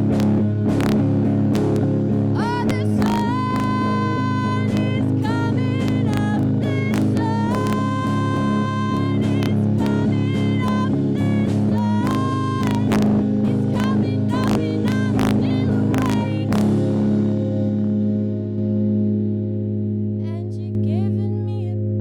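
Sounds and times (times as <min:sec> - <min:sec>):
lead guitar with bent notes: 0:00.0 - 0:22.0.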